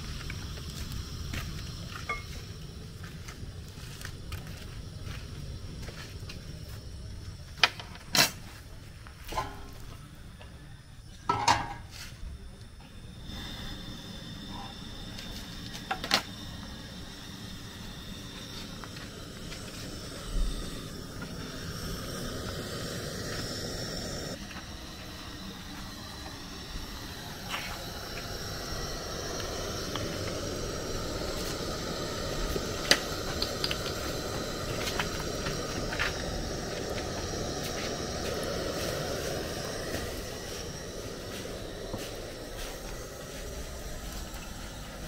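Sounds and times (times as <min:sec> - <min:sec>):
gas burner hissing: 0:00.0 - 0:45.0.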